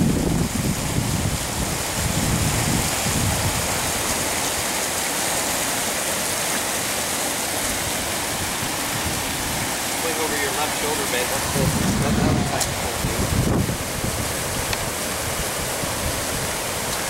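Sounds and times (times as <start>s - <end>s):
wind buffeting microphone: 0.0s - 4.8s, 7.6s - 17.0s
rushing floodwater: 0.0s - 17.0s.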